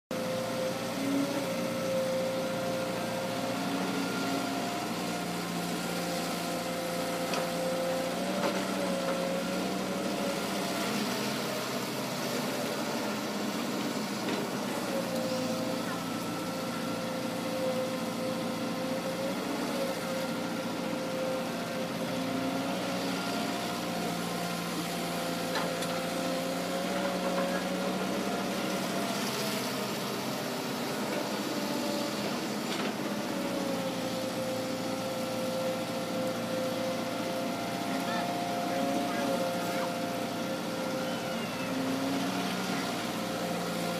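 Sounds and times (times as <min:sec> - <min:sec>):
excavator diesel engine: 0:00.1 - 0:43.9.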